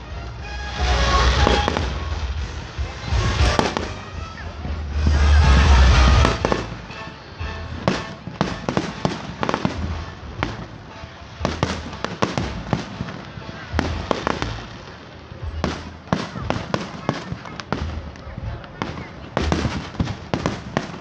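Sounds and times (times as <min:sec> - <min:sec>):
firework bangs and crackling pops: 0:00.0 - 0:21.0.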